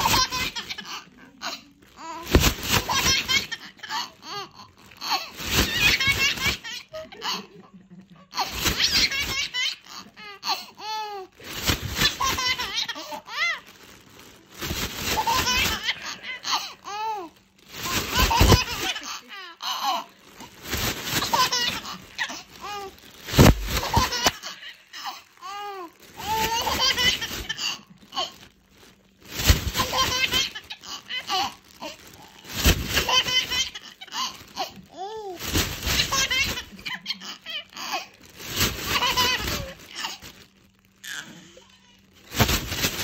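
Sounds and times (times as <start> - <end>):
baby laughing: 0.0 - 13.7, 14.8 - 28.4, 29.4 - 40.4
plastic sheeting crinkling: 0.0 - 43.0.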